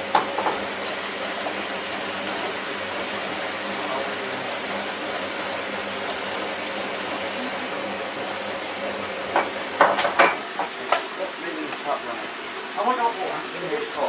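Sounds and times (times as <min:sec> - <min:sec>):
washing machine filling with water: 0:00.0 - 0:14.0.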